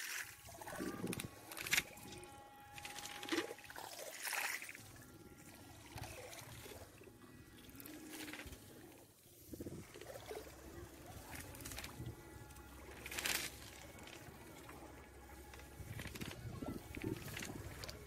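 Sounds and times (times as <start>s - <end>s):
water sloshing at shore: 0.0s - 18.0s
water splashes: 0.0s - 18.0s.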